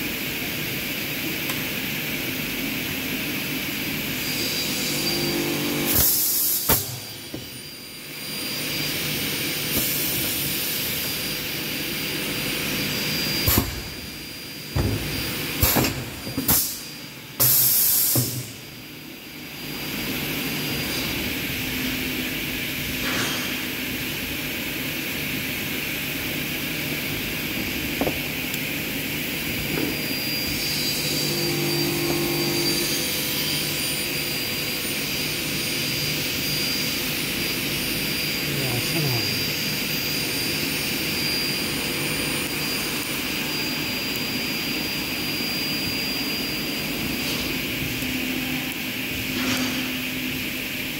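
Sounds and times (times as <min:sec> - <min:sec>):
machine humming and hissing: 0:00.0 - 0:50.9.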